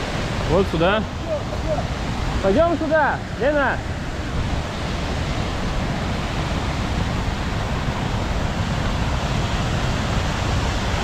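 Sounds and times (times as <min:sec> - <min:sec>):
sea surf: 0:00.0 - 0:11.0
wind buffeting microphone: 0:00.0 - 0:11.0.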